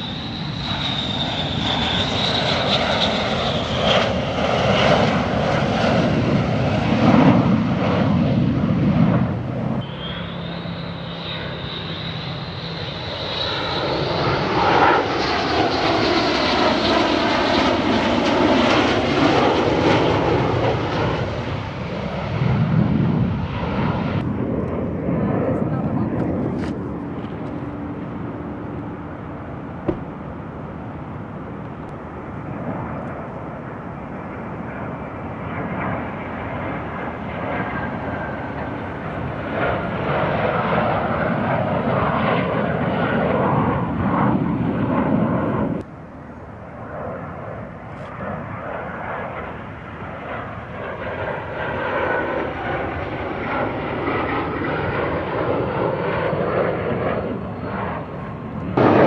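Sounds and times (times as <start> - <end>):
jet engine rushing: 0.0 - 45.9, 46.6 - 59.0.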